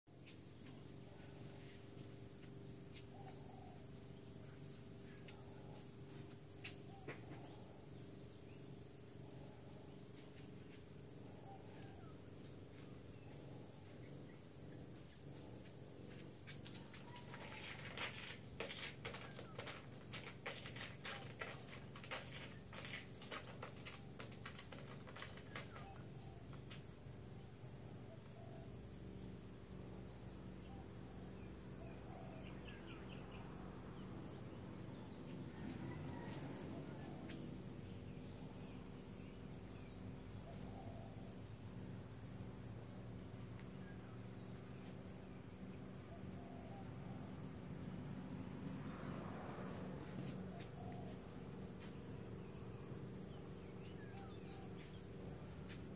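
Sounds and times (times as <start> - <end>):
insect chorus trilling: 10.6 - 55.9.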